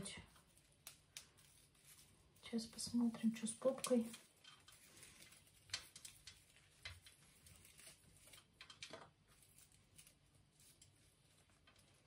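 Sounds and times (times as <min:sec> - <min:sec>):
dry roots crackling and rustling: 0:00.0 - 0:12.0.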